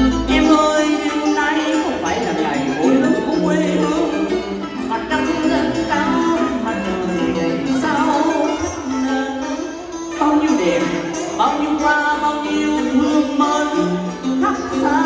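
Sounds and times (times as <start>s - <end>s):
plucked strings wavering notes: 0.0s - 15.0s
traditional live music: 0.0s - 15.0s.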